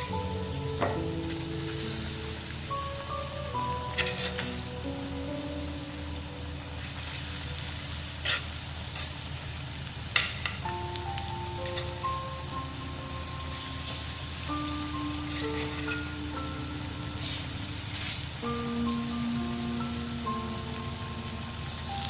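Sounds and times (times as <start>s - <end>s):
food sizzling in a pan: 0.0s - 22.0s
soft instrumental music: 0.0s - 22.0s.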